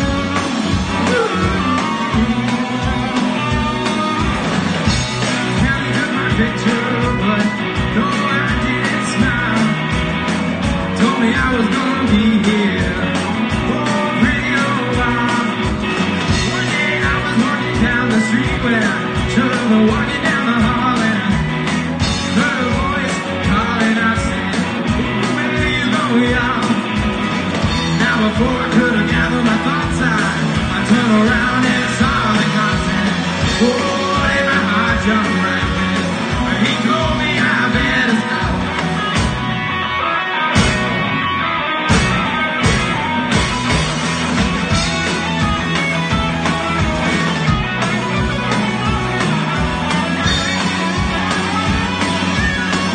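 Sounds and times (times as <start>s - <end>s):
drum kit steady beat: 0.0s - 39.6s, 40.6s - 41.0s, 41.9s - 52.9s
man singing lead: 0.0s - 40.6s, 44.6s - 52.9s
electric bass: 0.0s - 52.9s
electric guitars: 0.0s - 52.9s.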